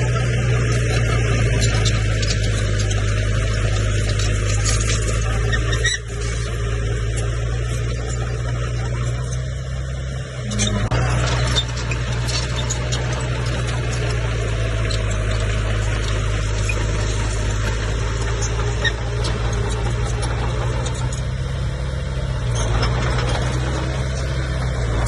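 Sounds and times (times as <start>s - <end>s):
steel tracks squealing and clattering: 0.0s - 9.6s, 10.4s - 25.0s
bulldozer diesel engine droning: 0.0s - 25.0s.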